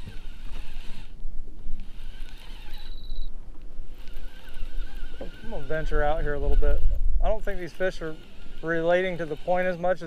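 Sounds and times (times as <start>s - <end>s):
high ticking whir: 0.0s - 10.0s
wind buffeting microphone: 0.0s - 10.0s.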